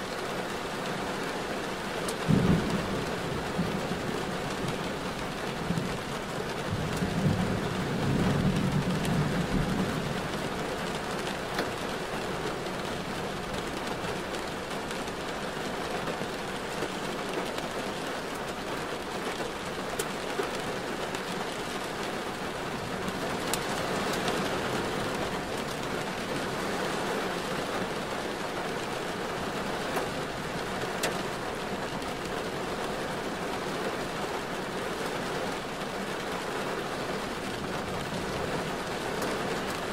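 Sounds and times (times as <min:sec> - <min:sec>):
rain on a car: 0:00.0 - 0:39.9
raindrops ticking: 0:01.6 - 0:39.9.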